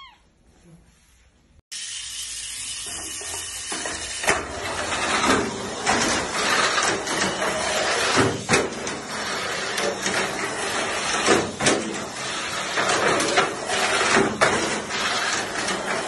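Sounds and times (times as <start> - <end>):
toy car rattling on plastic track: 2.6 - 16.0.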